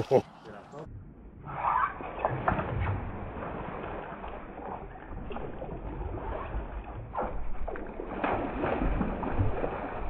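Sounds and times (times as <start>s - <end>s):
fish splashing in water: 1.8s - 10.0s.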